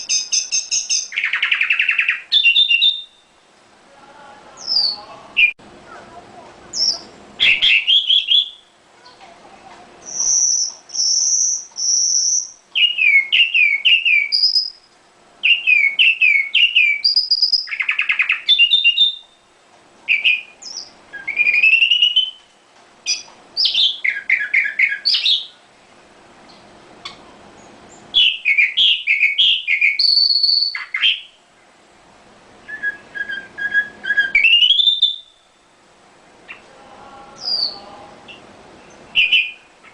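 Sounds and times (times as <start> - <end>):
songbird singing: 0.0 - 6.0, 6.7 - 9.3, 10.0 - 31.8, 32.6 - 35.8, 36.4 - 39.9.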